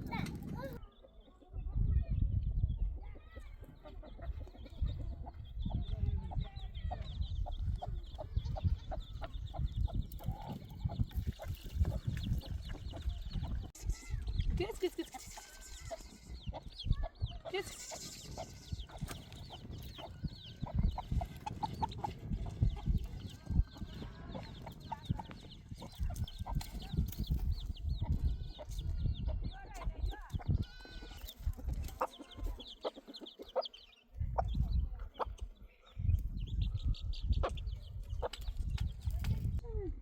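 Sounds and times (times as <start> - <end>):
chickens clucking and chirping: 0.0 - 39.6.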